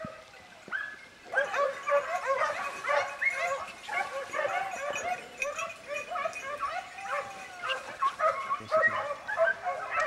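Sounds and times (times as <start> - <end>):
hounds baying and yelping: 0.0 - 10.0.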